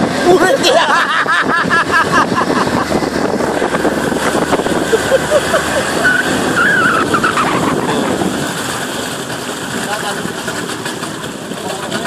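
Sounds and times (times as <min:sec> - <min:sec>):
motorboat engine: 0:00.0 - 0:12.0
water rushing: 0:00.0 - 0:12.0
wind: 0:00.0 - 0:12.0.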